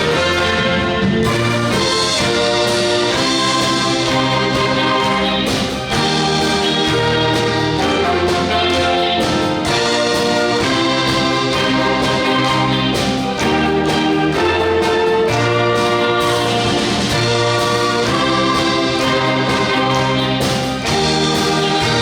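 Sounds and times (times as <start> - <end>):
brass ensemble playing: 0.0 - 22.0.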